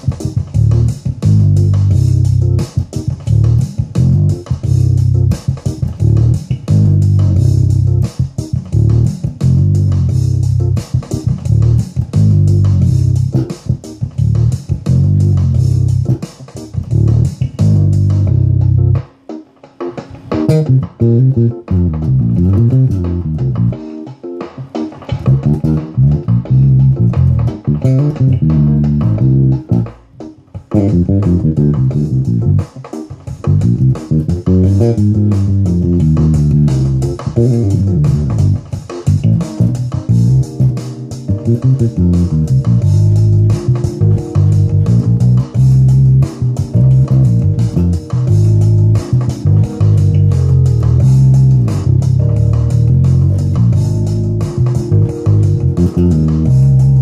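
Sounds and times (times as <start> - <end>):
bass guitar funky groove: 0.0 - 19.1, 19.8 - 57.0
backing track: 0.0 - 57.0.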